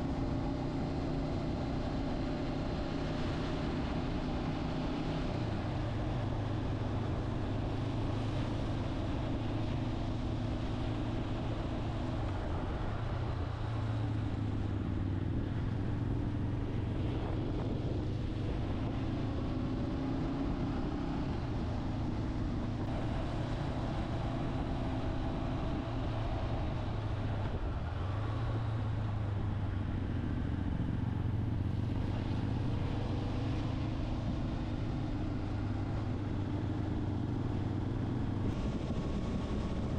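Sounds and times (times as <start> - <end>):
continuous rushing noise: 0.0 - 39.9
motorcycle engine running: 0.0 - 39.9.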